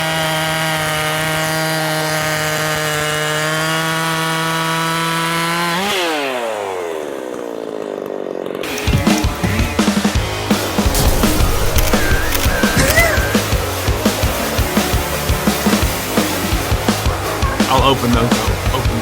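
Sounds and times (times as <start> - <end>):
chainsaw engine running: 0.0 - 19.0.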